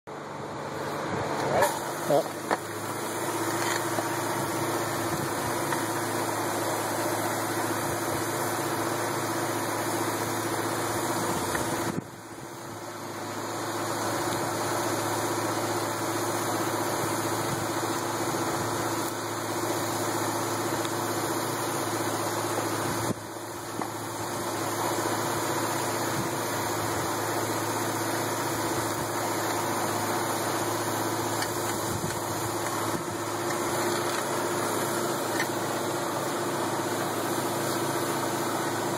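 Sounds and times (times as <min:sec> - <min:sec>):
spray rig machine hum with hiss: 0:00.3 - 0:38.9.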